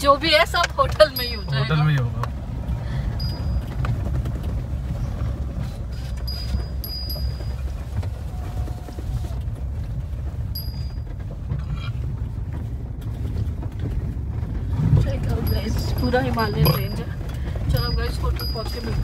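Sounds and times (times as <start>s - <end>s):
engine and tyres rumbling: 0.0s - 19.0s.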